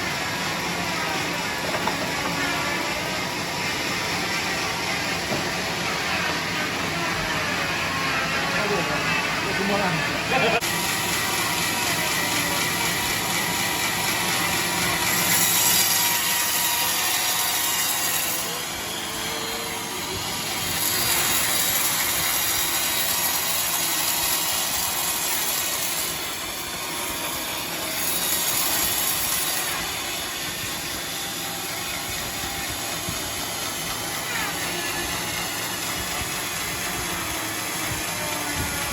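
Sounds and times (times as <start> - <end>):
power saw cutting wood: 0.0 - 38.9.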